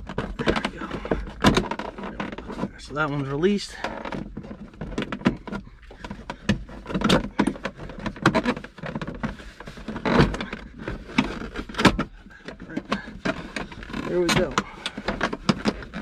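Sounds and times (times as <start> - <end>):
plastic panel clicks and scrapes: 0.0 - 16.0.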